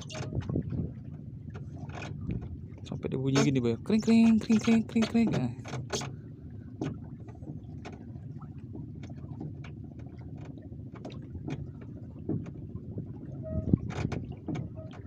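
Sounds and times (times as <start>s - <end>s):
low boat rumble: 0.0s - 15.0s
water knocking against wooden hull: 0.0s - 15.0s.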